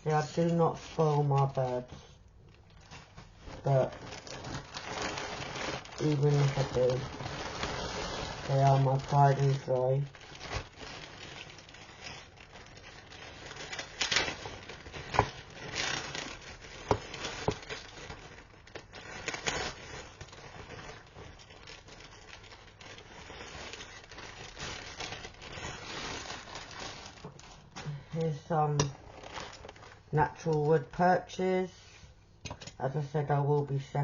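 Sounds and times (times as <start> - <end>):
plastic packaging crinkling: 0.0 - 31.7.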